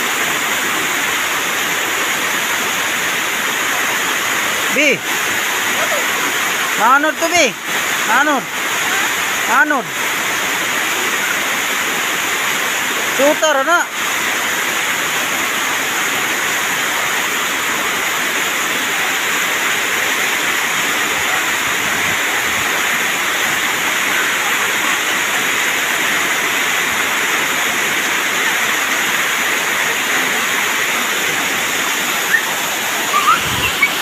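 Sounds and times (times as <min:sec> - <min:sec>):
waterfall pouring into a pool: 0:00.0 - 0:34.0.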